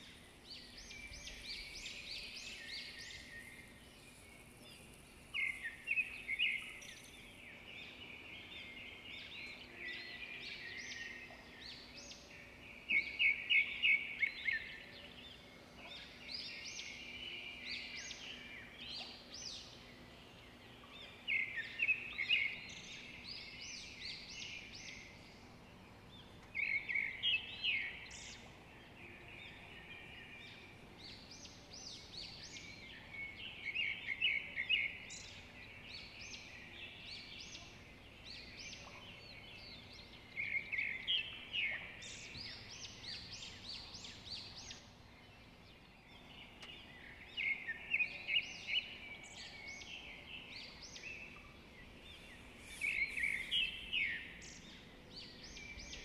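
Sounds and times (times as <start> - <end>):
faint outdoor hiss: 0.0 - 56.0
songbird chirping: 0.0 - 56.0.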